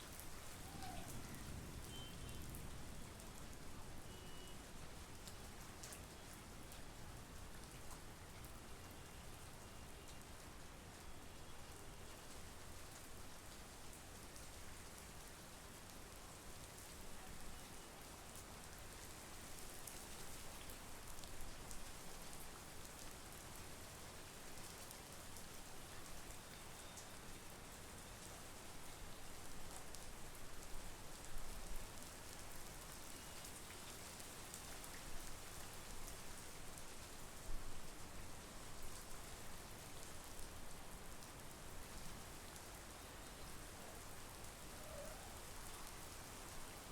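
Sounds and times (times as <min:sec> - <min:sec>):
steady rain hissing: 0:00.0 - 0:46.9.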